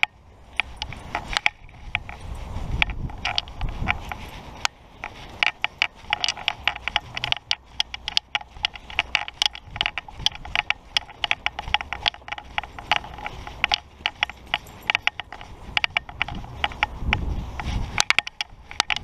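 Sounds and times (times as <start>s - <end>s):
footsteps crunching on dry grass: 0.0s - 19.0s
wind rumble on microphone: 0.0s - 19.0s
clothing rubbing near microphone: 0.5s - 19.0s.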